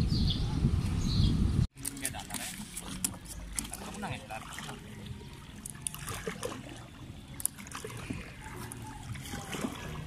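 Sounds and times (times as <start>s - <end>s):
water lapping against canoe hull: 1.8s - 10.0s.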